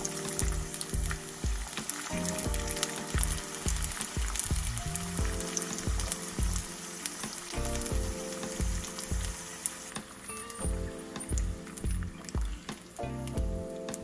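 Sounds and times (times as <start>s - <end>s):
food sizzling in oil: 0.0s - 13.0s
background music with beat: 0.0s - 14.0s.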